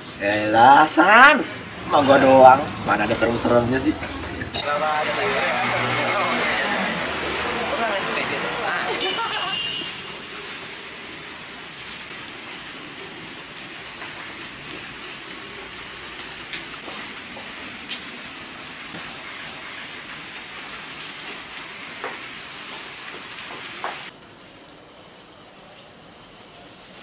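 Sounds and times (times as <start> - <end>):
outdoor night ambience hiss: 0.0 - 27.0.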